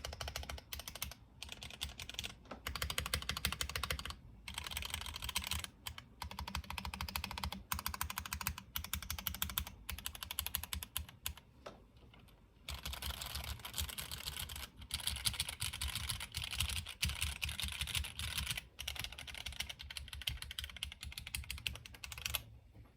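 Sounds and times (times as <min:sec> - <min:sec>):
typing on mechanical keyboard: 0:00.0 - 0:11.5, 0:12.2 - 0:22.5.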